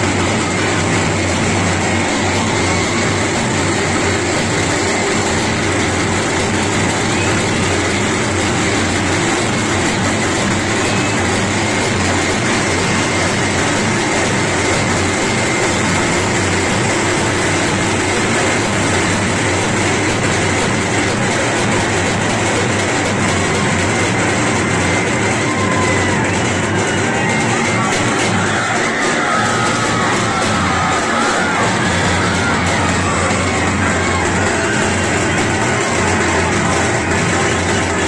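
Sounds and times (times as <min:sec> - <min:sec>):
din of large crowd: 0:00.0 - 0:38.0.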